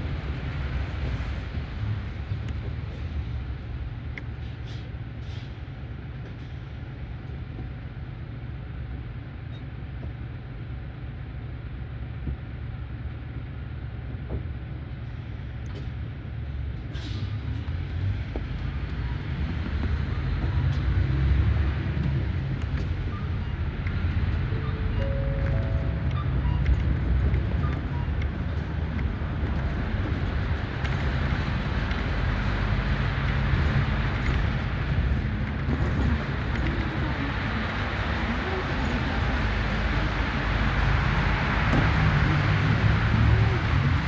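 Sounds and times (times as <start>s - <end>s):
bus engine rumble: 0.0s - 44.0s.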